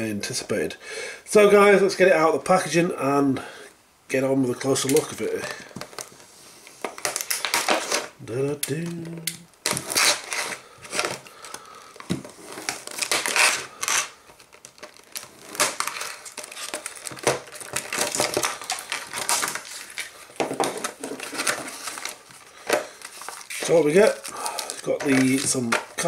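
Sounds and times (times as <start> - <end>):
plastic blister pack crackling: 4.5 - 26.0.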